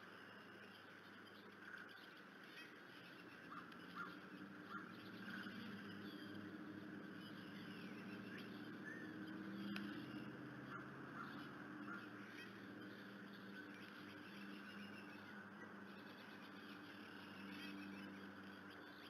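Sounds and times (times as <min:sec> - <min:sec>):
low steady hum: 0:00.0 - 0:19.0
short bird calls: 0:00.2 - 0:19.0
whistled songbird notes: 0:00.3 - 0:19.0.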